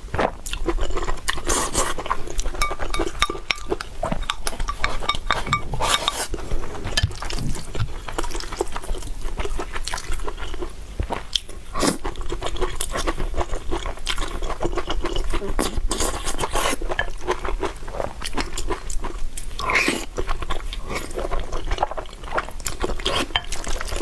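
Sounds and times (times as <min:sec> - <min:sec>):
person chewing and slurping noodles: 0:00.1 - 0:24.0.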